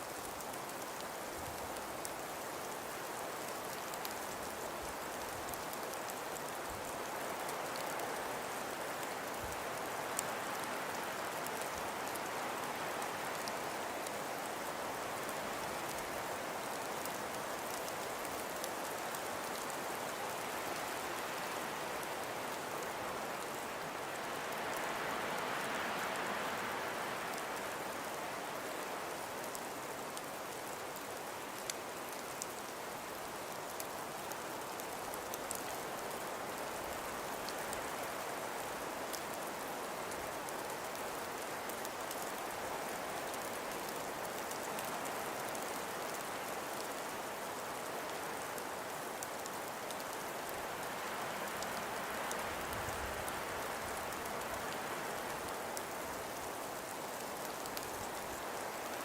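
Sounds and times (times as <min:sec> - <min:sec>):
wind and falling snow hiss: 0:00.0 - 0:59.0.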